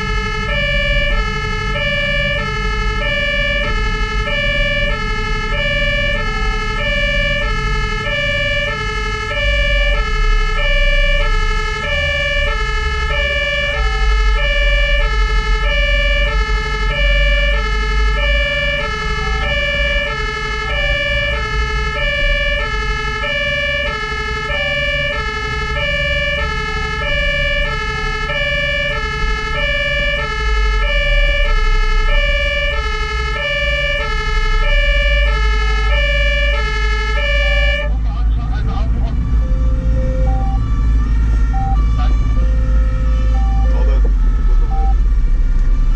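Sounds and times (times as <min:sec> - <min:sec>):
engine rumble: 0:00.0 - 0:45.9
fire engine two-tone siren: 0:00.0 - 0:45.9.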